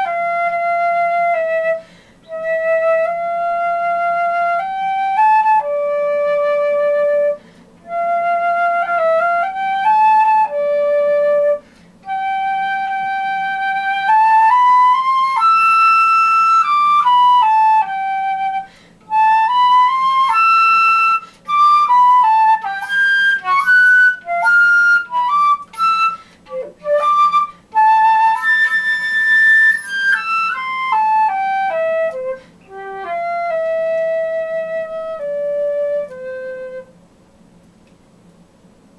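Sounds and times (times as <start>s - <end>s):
flute playing slow melody: 0.0s - 37.0s.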